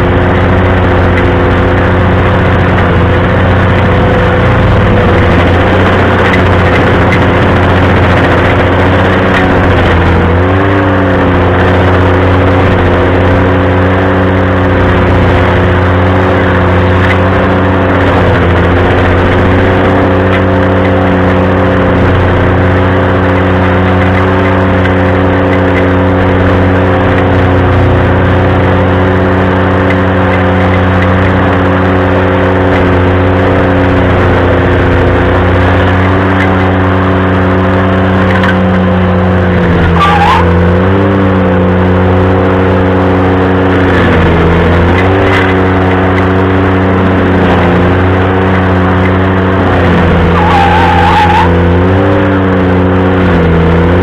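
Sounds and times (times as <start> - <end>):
tractor engine at high throttle: 0.0 - 54.0.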